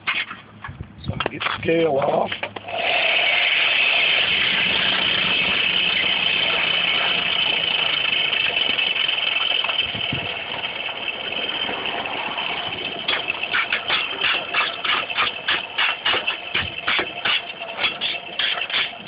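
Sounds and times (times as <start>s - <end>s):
brush scraping hot iron: 2.9s - 19.0s.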